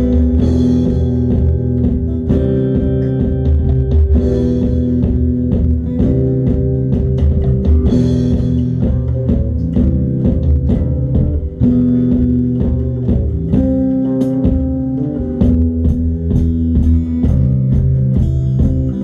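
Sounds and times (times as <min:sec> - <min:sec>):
bass guitar: 0:00.0 - 0:19.0
electric guitar repeating low notes: 0:00.0 - 0:19.0
steady drum beat: 0:00.0 - 0:19.0.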